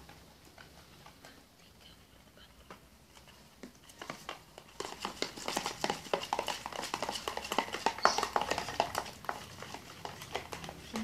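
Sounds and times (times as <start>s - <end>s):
spoon stirring slime squelching: 0.0s - 11.0s.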